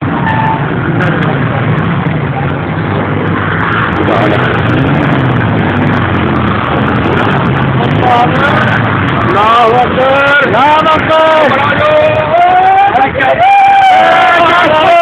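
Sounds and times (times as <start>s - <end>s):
dense wash of noise: 0.0s - 15.0s
faint voices: 0.0s - 15.0s
vehicle engine running: 0.0s - 15.0s.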